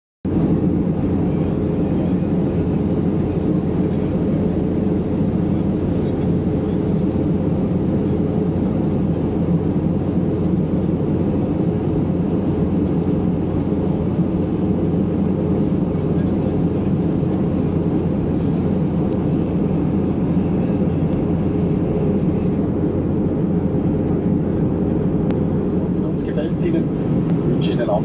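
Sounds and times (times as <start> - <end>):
airliner cabin drone: 0.3 - 28.0
faint constant hum: 0.3 - 28.0.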